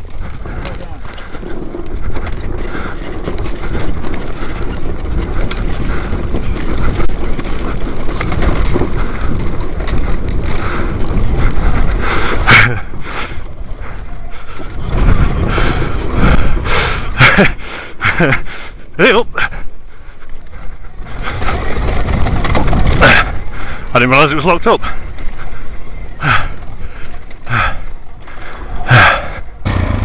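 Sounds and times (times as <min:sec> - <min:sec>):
rumble and wind buffeting: 0:00.0 - 0:30.0.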